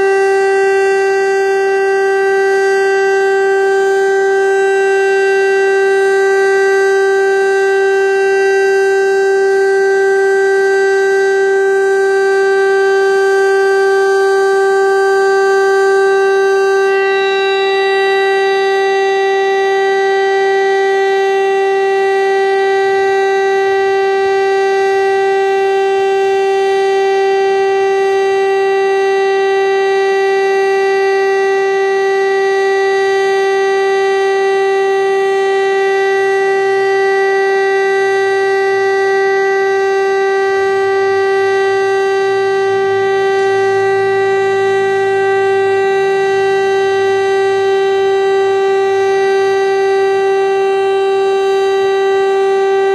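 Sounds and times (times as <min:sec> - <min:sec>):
civil defence siren steady tone: 0:00.0 - 0:52.9.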